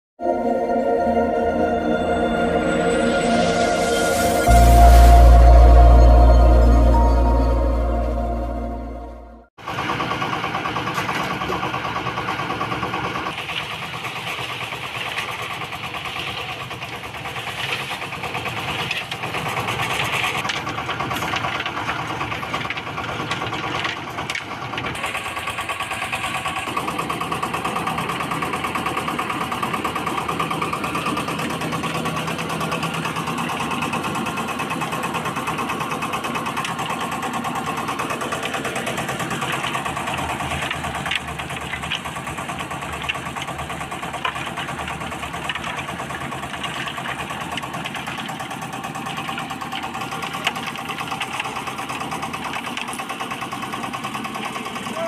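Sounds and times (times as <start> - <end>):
concrete mixer engine running: 0.2 - 55.0.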